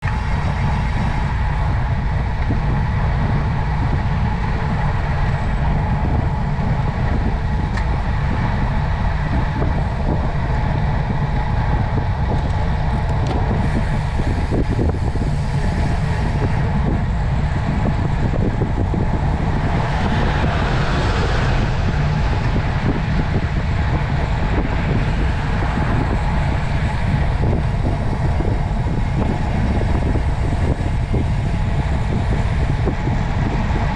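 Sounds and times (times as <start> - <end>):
wind and road noise: 0.0 - 33.9.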